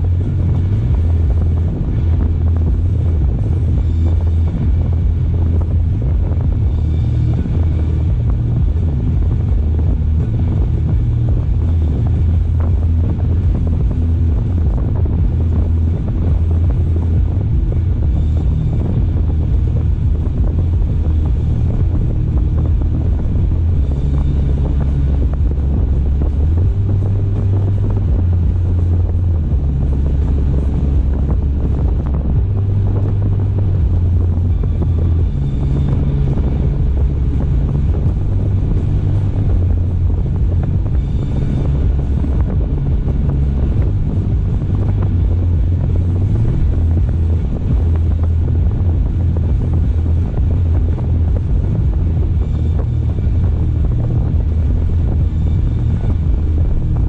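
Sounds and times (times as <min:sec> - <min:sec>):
car driving: 0:00.0 - 0:57.0
road and wind noise: 0:00.0 - 0:57.0.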